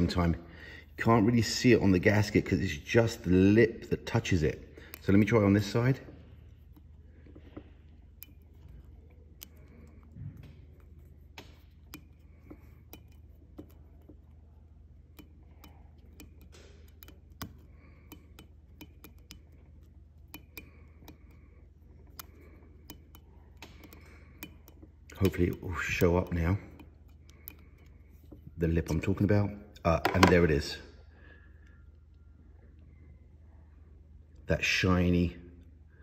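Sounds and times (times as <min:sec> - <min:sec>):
gasket clicking on metal: 0:00.0 - 0:30.8
low steady hum: 0:00.0 - 0:36.0.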